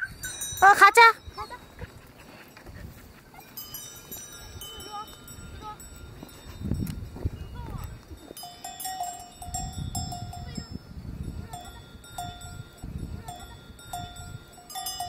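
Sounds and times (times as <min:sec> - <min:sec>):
cowbells clanking: 0:00.0 - 0:15.0.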